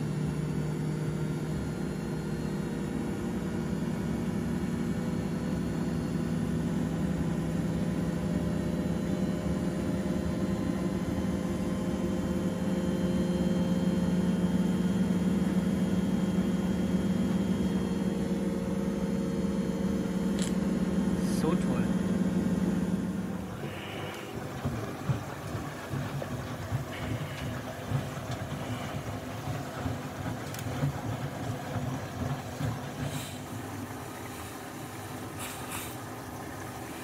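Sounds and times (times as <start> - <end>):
washing machine motor humming: 0.0 - 37.0.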